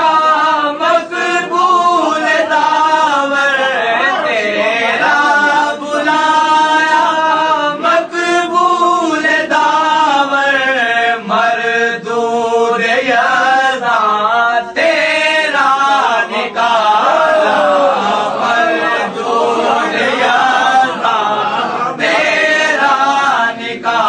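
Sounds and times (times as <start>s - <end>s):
man chanting verse melodically: 0.0s - 24.0s.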